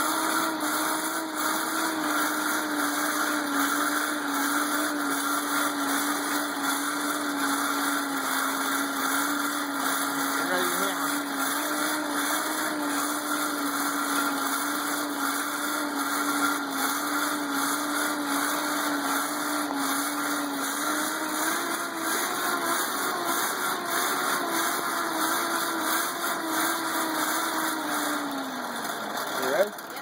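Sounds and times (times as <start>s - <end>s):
hand-cranked forge blower whirring: 0.0s - 30.0s.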